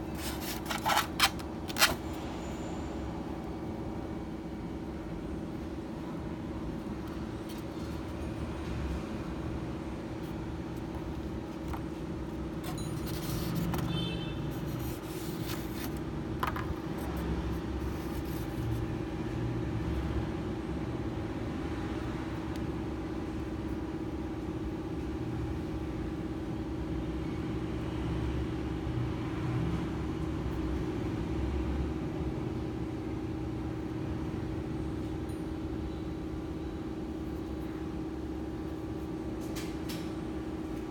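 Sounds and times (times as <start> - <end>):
machine hum with low rumble: 0.0 - 40.9.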